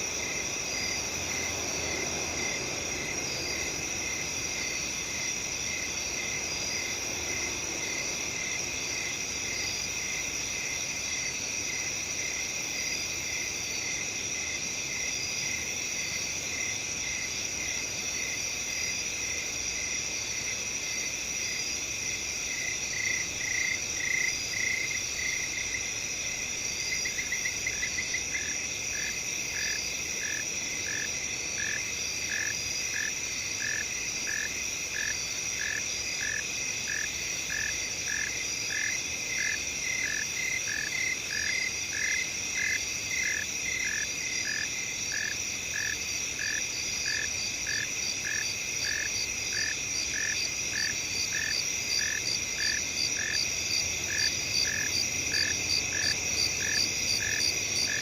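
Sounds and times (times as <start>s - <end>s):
cricket chirping: 0.0s - 58.0s
crickets trilling: 0.0s - 58.0s.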